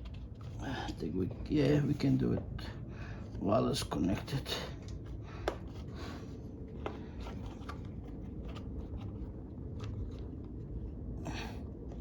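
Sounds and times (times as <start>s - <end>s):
small handling noises: 0.0s - 3.5s, 4.2s - 11.0s
low steady hum: 0.0s - 12.0s.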